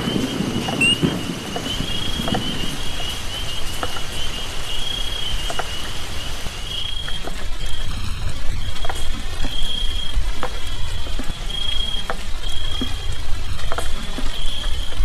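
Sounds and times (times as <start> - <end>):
drops ticking: 0.0 - 15.0
rain falling: 0.0 - 15.0.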